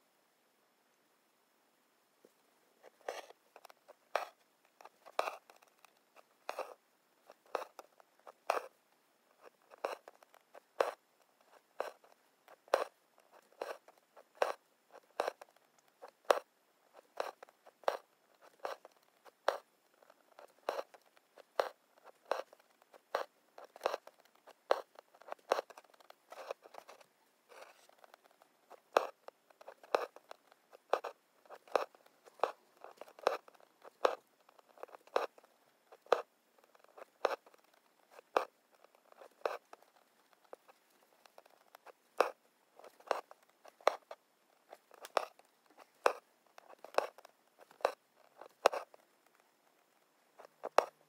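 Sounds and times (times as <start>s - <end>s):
needle and thread through fabric: 2.2s - 51.0s.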